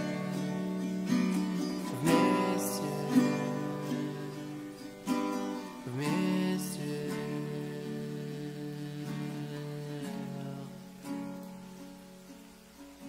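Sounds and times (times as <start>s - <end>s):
slow acoustic guitar music: 0.0s - 13.0s.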